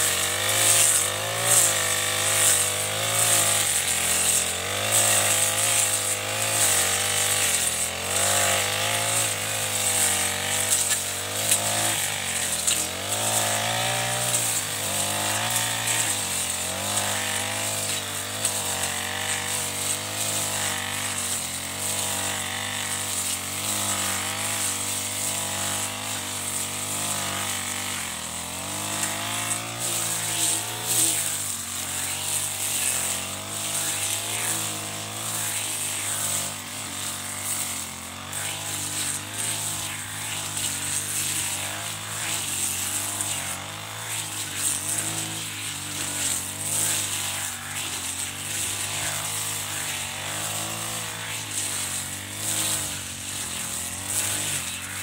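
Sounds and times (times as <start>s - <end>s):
brush cutter cutting grass: 0.0s - 55.0s.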